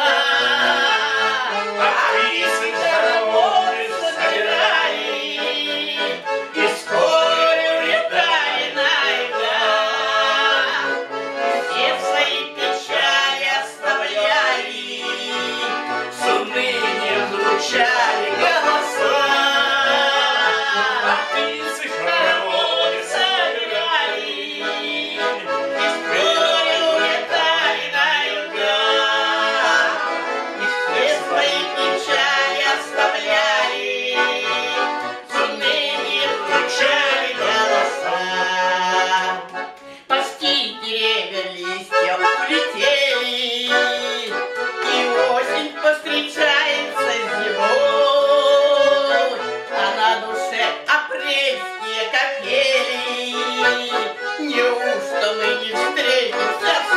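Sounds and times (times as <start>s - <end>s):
button accordion playing folk song: 0.0s - 56.9s
man and woman singing: 0.0s - 56.9s.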